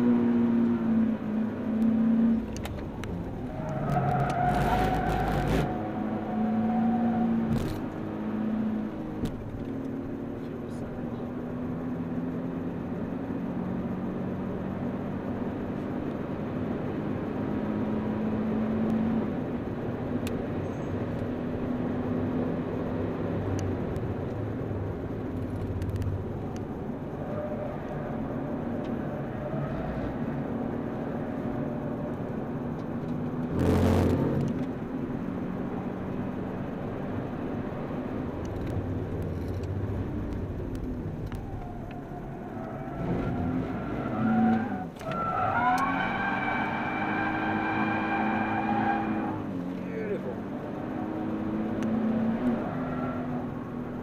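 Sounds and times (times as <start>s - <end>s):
car engine revving: 0.0s - 54.0s
road noise: 0.0s - 54.0s.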